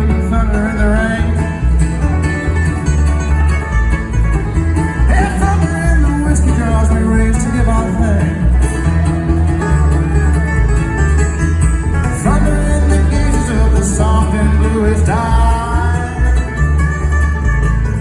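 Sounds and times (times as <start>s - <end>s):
heavy bass: 0.0s - 18.0s
plucked string instruments: 0.0s - 18.0s.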